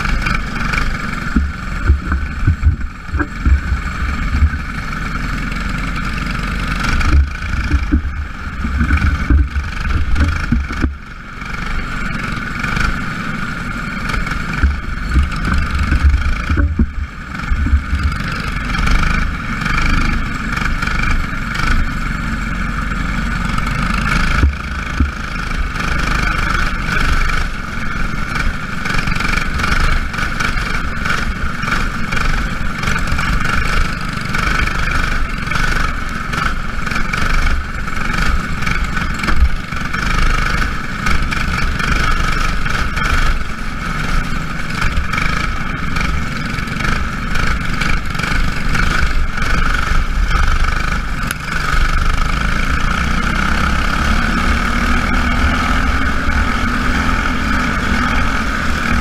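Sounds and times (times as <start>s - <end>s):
racing engines droning: 0.0s - 59.0s.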